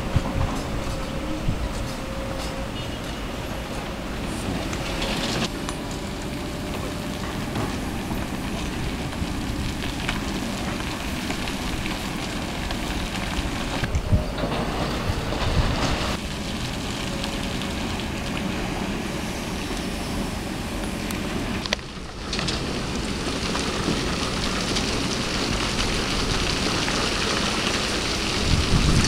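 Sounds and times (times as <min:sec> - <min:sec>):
excavator running: 0:00.0 - 0:29.0
sand and rocks pouring into truck: 0:04.8 - 0:29.0.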